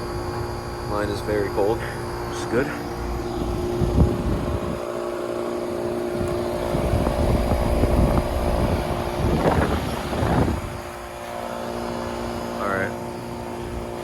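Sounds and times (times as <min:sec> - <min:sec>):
air conditioner unit humming: 0:00.0 - 0:14.0
air gusts buffeting microphone: 0:00.0 - 0:14.0.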